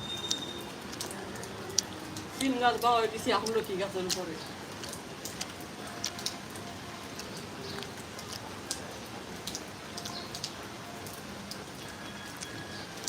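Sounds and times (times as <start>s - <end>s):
sharp raindrop ticks: 0.0s - 13.0s
steady hiss of rain: 0.0s - 13.0s.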